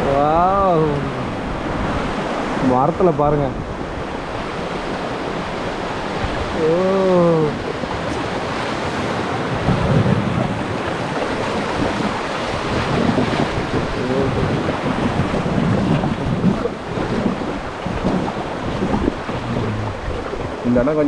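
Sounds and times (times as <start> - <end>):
river whitewater rushing: 0.0 - 21.0
wind noise on microphone: 0.0 - 21.0.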